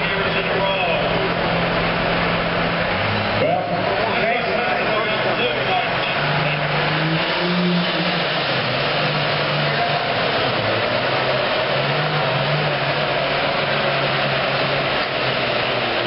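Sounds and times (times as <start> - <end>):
diesel tractor engine at full power: 0.0 - 16.0.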